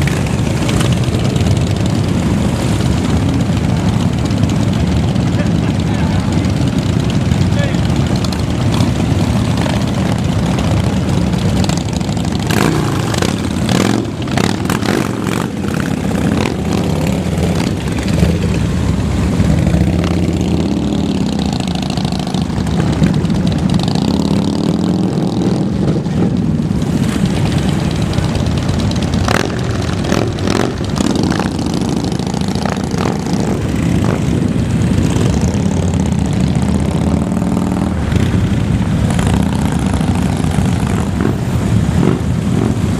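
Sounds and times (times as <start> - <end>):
motorcycle engines idling and revving: 0.0 - 42.9.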